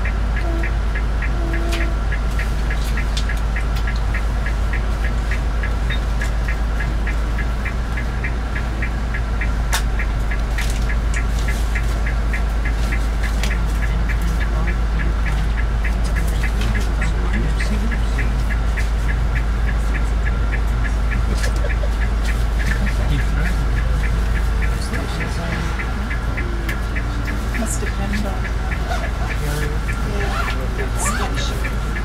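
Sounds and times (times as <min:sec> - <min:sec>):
fast even ticking: 0:00.0 - 0:32.0
vehicle engine idling: 0:00.0 - 0:32.0.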